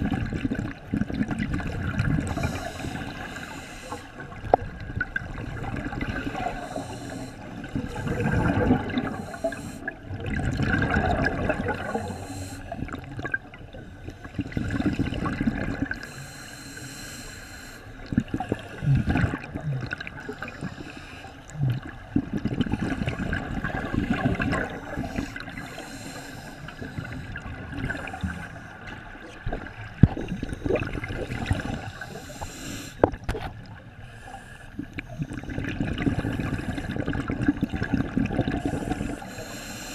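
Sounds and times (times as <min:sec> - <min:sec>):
underwater regulator bubbles gurgling: 0:00.0 - 0:16.4, 0:18.0 - 0:39.9.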